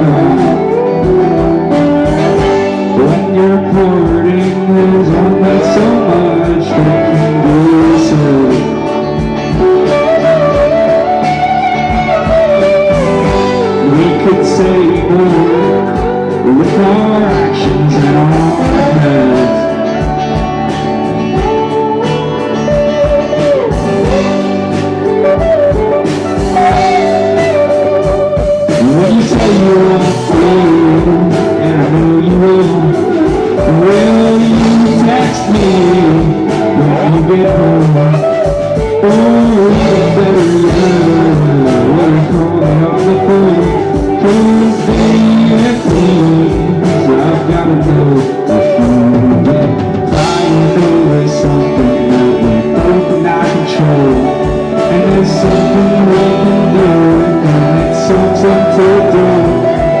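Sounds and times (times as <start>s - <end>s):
electric guitar lines: 0.0s - 60.0s
steady drum beat: 0.0s - 60.0s.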